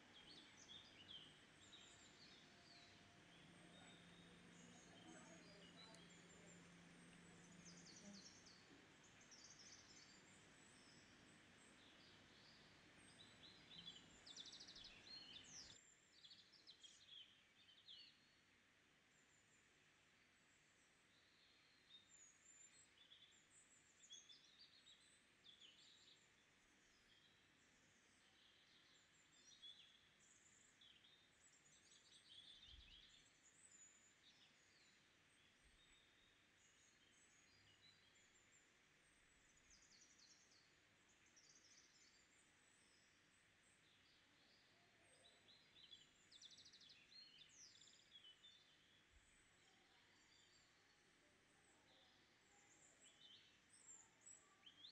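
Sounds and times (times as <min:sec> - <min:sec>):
faint high chirps and trills: 0:00.0 - 0:54.9
low steady hiss: 0:00.0 - 0:54.9.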